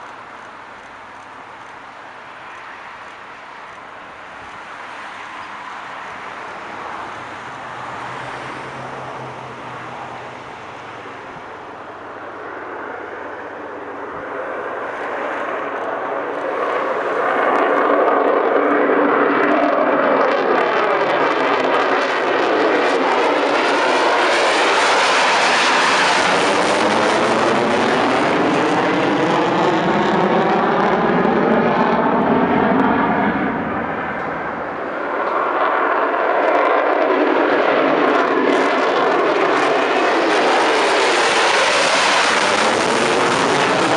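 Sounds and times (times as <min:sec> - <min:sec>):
fighter jet engine roar: 0:00.0 - 0:43.9.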